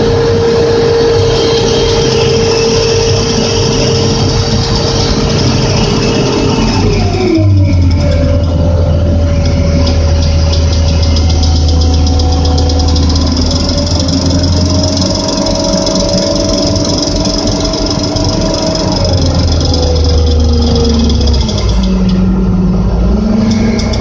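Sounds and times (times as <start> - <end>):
crane engine humming: 0.0 - 24.0
engine whine changing pitch: 0.0 - 24.0.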